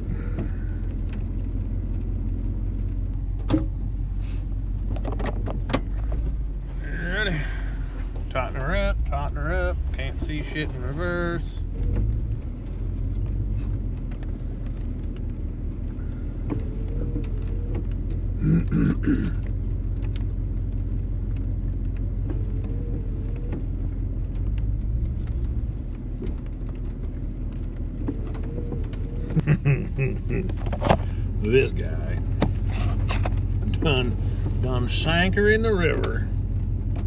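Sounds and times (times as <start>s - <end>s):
truck engine rumbling: 0.0s - 37.0s.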